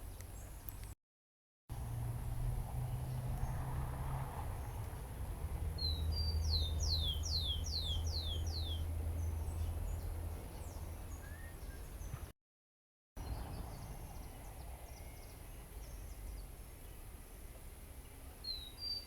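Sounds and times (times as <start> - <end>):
songbird singing: 0.0 - 1.0, 1.8 - 12.3, 13.2 - 19.0.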